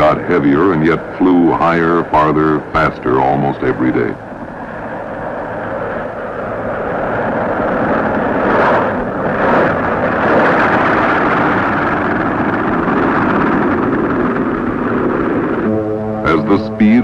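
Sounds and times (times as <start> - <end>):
aircraft engines running: 0.0 - 17.0.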